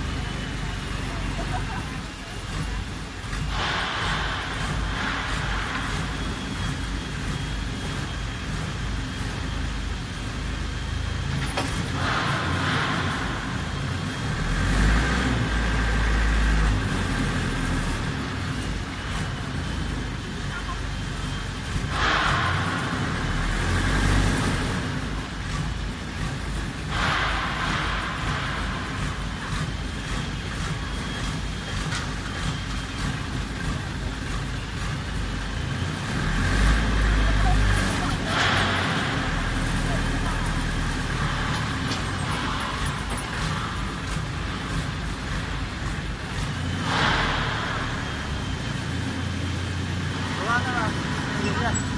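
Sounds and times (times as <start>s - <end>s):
pile driver engine running: 0.0s - 51.9s.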